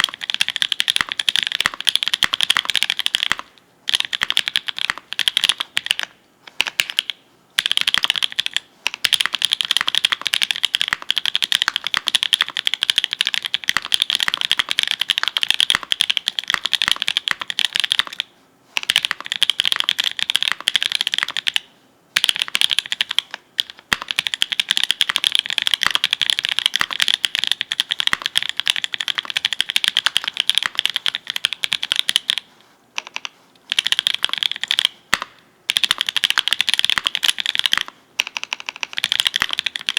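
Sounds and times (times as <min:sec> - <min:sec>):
fast typing on mechanical keyboard: 0:00.0 - 0:21.6, 0:22.2 - 0:39.9.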